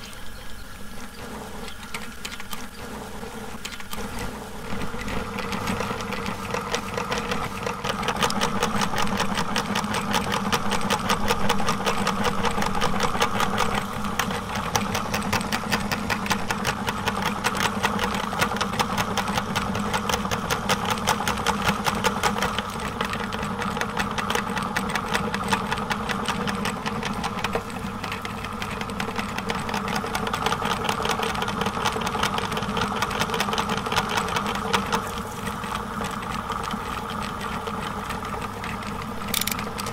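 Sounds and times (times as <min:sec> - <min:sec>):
electric meat grinder running: 0:04.6 - 0:39.9.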